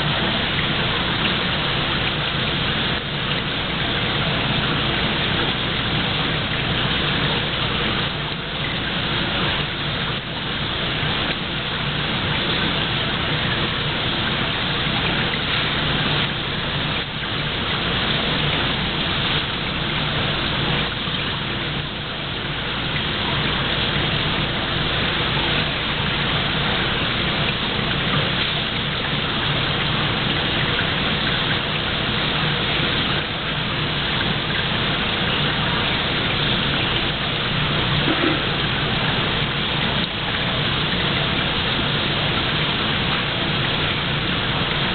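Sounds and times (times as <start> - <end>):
water running into tank: 0.0 - 44.9.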